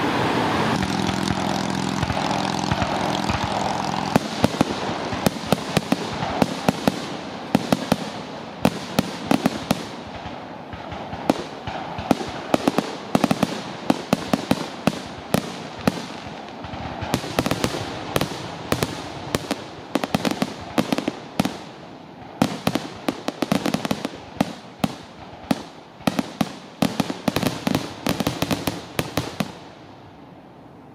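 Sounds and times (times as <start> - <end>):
fireworks bursting: 0.0 - 30.9.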